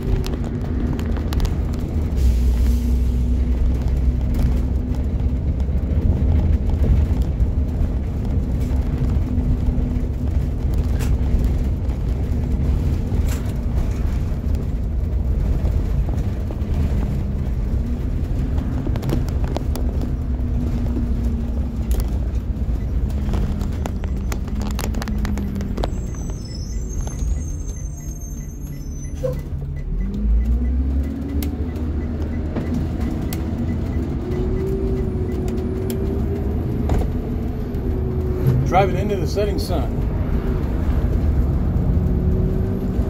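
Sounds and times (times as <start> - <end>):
bus engine rumble: 0.0 - 43.0
road noise: 0.0 - 43.0.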